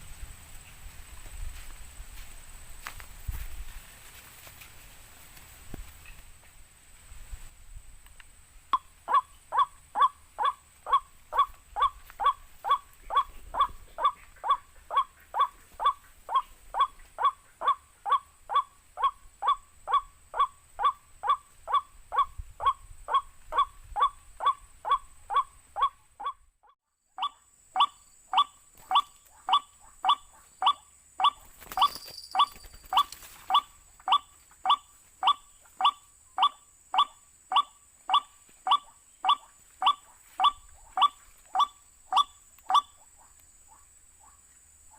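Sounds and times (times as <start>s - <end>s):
recorded bird call: 8.7s - 44.9s.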